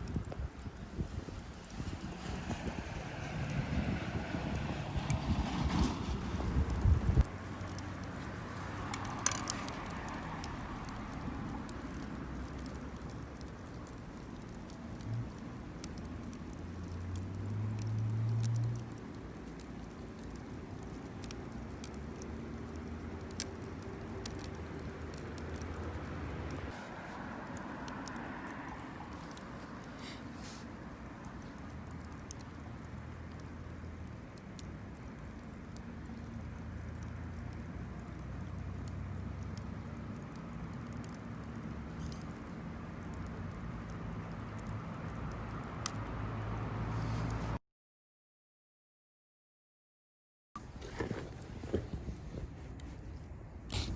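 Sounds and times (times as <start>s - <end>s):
campfire crackling and popping: 0.0s - 47.5s, 50.6s - 53.9s.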